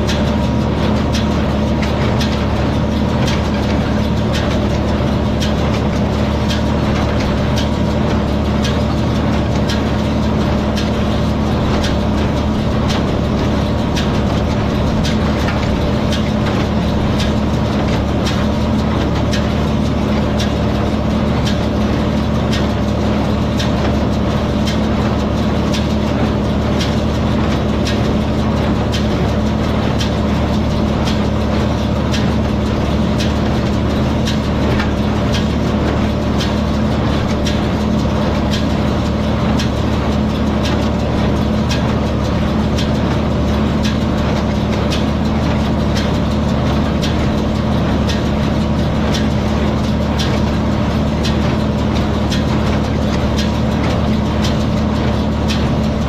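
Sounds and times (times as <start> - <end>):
hay baler plunger clacking: 0.0 - 56.0
tractor engine running: 0.0 - 56.0.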